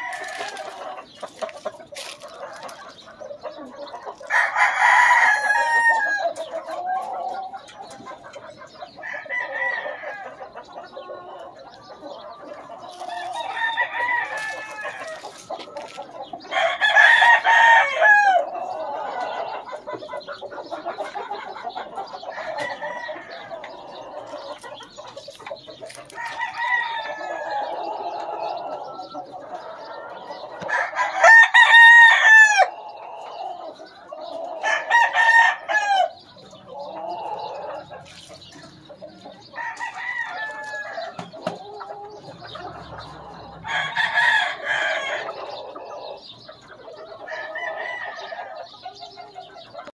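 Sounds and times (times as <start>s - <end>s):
roosters crowing: 0.0s - 7.8s, 8.7s - 49.1s
soft chicken calls: 0.0s - 49.9s.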